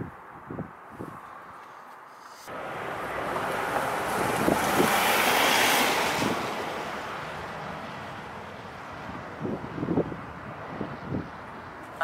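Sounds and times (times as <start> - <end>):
wind rumbling on microphone: 0.0 - 1.6, 2.5 - 12.0.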